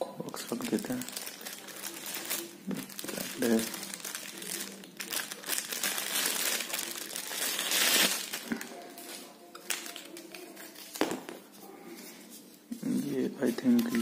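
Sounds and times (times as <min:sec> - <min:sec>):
plastic and paper crinkling: 0:00.2 - 0:14.0.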